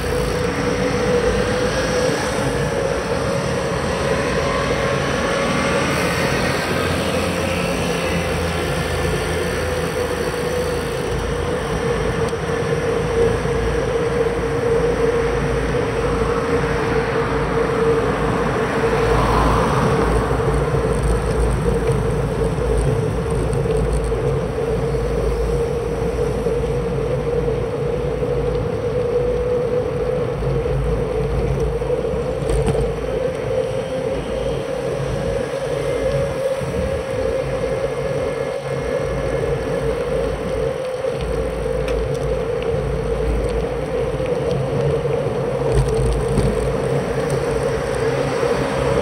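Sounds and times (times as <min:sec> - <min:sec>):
constant hum: 0:00.0 - 0:49.0
wind rush on microphone: 0:00.0 - 0:49.0.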